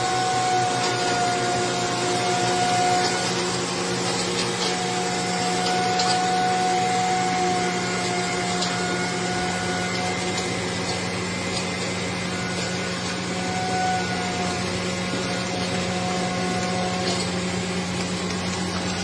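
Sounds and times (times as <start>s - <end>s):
construction machinery droning: 0.0s - 19.0s.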